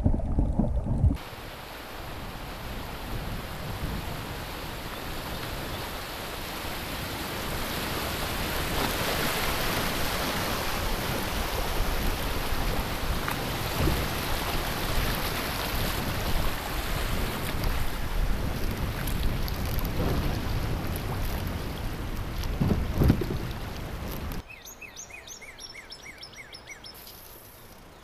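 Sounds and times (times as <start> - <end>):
water rushing over rocks: 0.0 - 24.4.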